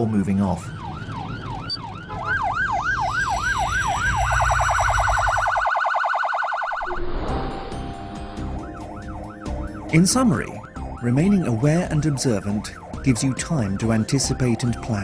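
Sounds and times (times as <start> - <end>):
emergency vehicle sirens wailing: 0.0 - 7.0, 8.0 - 15.0
siren rapid yelp: 0.6 - 7.0, 8.2 - 14.0.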